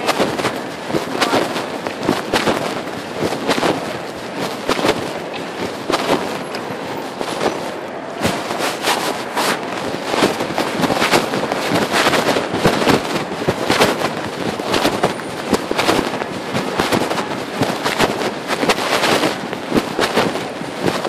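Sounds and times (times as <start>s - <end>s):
fabric rubbing on phone microphone: 0.0s - 21.0s.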